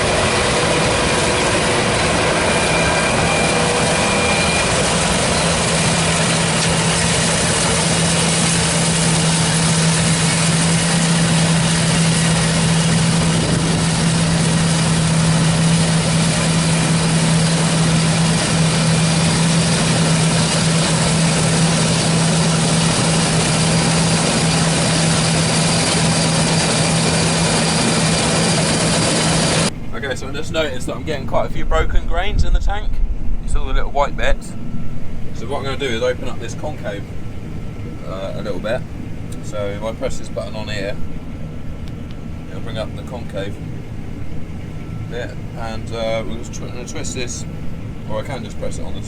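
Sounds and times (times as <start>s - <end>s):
combine harvester droning: 0.0s - 49.0s.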